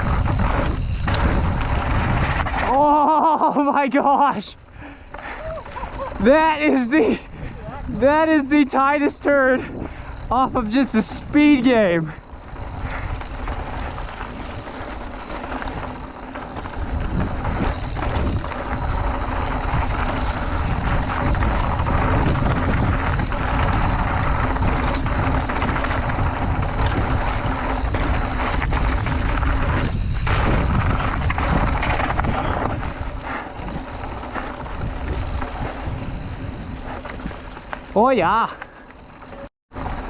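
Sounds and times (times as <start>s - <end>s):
wind buffeting microphone: 0.0s - 2.7s, 4.7s - 39.2s
bike knocks and rattles: 0.0s - 3.4s, 5.1s - 40.0s
bike tyres on rough trail: 0.0s - 40.0s.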